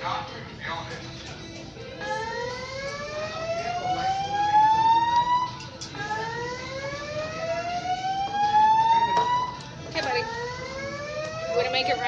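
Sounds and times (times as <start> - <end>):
fire alarm whoop tone: 2.0 - 12.0.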